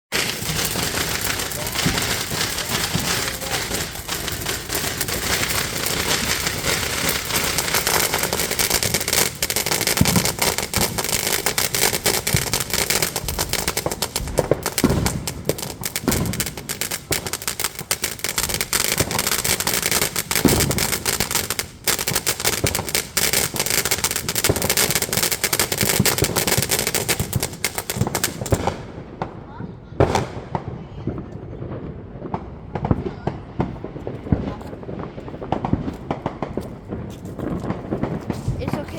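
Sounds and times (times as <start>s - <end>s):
fireworks crackling and popping: 0.0s - 38.9s
fireworks bangs: 0.1s - 38.9s.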